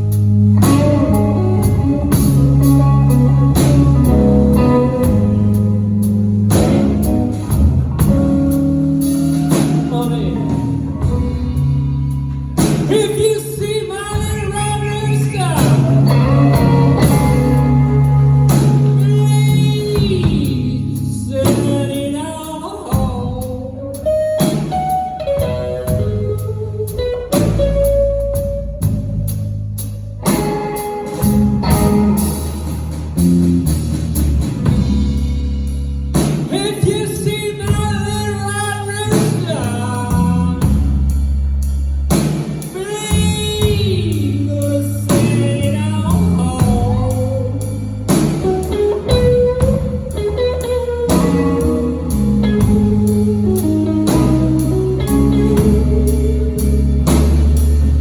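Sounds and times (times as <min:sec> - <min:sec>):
bass guitar: 0:00.0 - 0:58.0
drum kit: 0:00.0 - 0:58.0
electric guitar with bent notes: 0:00.0 - 0:58.0.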